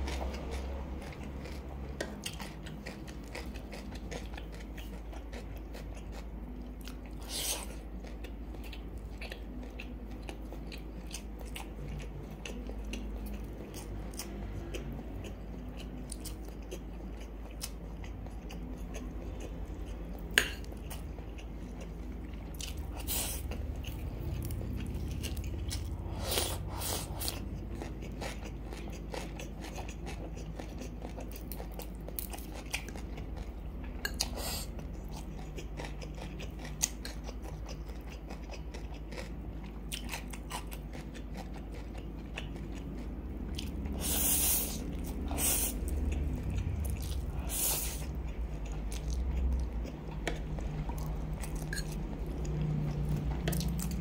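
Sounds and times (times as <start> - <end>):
person chewing: 0.0 - 54.0.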